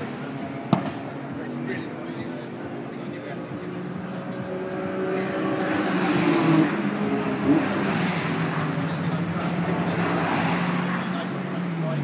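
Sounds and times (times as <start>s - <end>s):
race car engine approaching: 0.0s - 12.0s.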